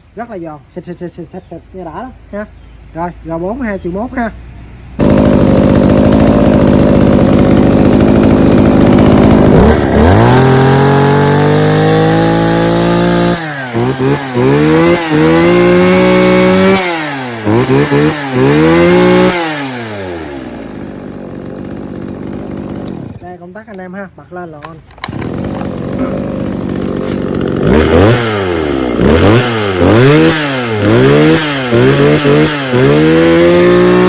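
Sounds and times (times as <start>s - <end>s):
chainsaw revving: 5.0s - 23.4s, 24.9s - 34.0s.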